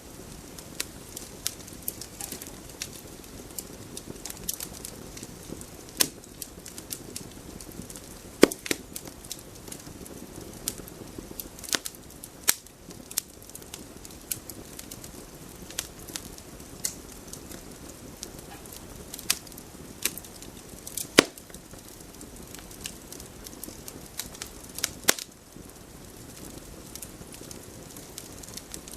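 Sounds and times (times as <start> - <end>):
campfire pops and crackles: 0.0 - 28.9
low rush of flames: 0.0 - 28.9.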